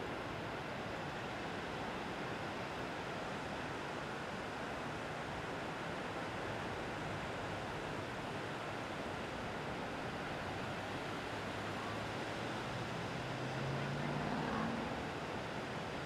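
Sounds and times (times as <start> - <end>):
ocean surf on a beach: 0.0 - 16.0.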